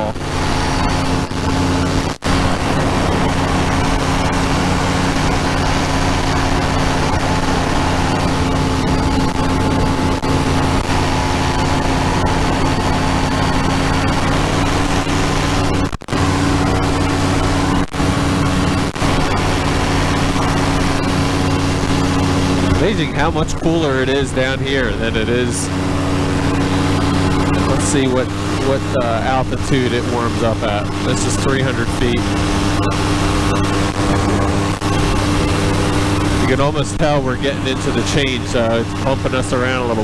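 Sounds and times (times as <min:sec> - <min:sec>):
engine and propeller drone: 0:00.0 - 0:40.0.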